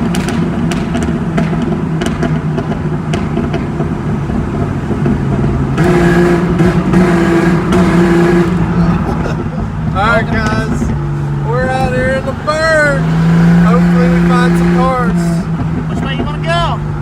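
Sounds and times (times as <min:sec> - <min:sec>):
car engine through loud exhaust: 0:00.0 - 0:17.0.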